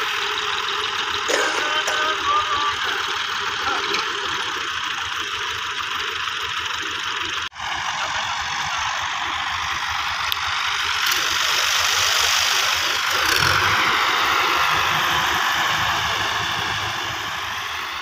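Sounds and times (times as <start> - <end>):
tractor diesel engines clattering: 0.0 - 18.0.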